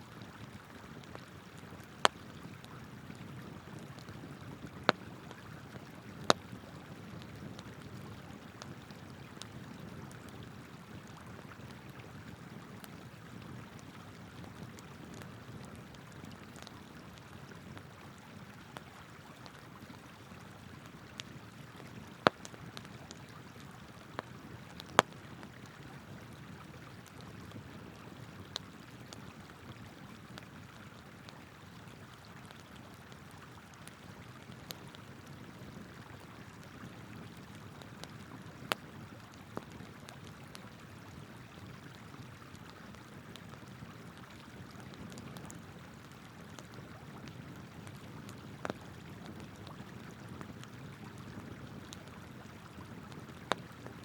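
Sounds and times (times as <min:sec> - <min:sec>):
campfire wood crackling and popping: 0:00.2 - 0:54.0.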